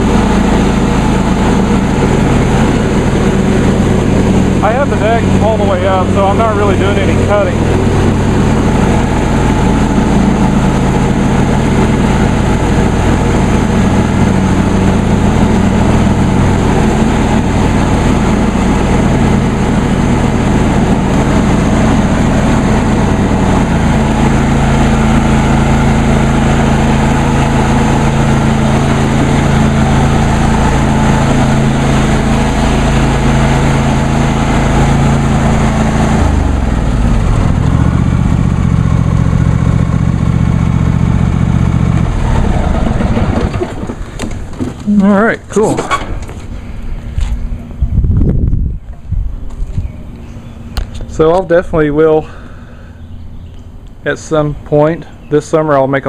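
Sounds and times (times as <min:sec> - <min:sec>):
mower blades spinning: 0:00.0 - 0:47.6
lawn tractor engine running: 0:00.0 - 0:56.0.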